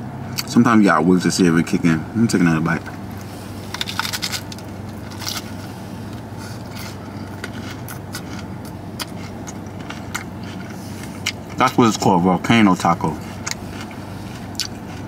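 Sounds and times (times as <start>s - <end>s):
steady low hum: 0.0s - 15.0s
taco shell crunching: 2.8s - 15.0s.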